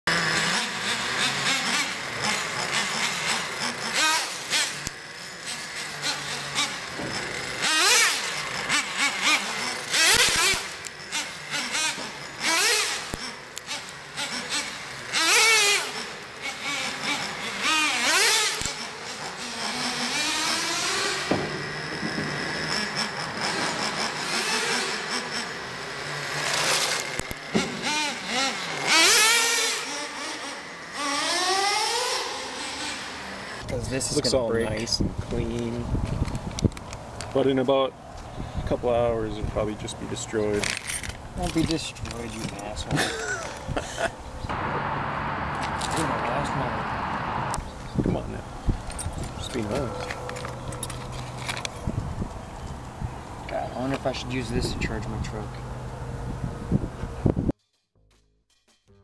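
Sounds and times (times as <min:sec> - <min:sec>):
rc truck engine revving: 0:00.1 - 0:34.4, 0:39.4 - 0:52.3.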